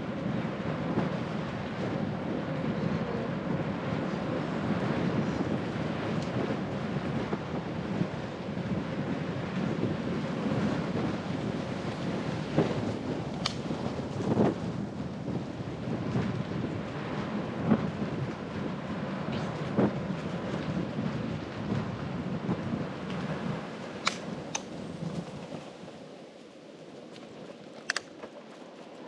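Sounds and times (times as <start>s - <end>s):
bicycle tyre rumble: 0.0s - 29.0s
wind on microphone: 0.0s - 29.0s.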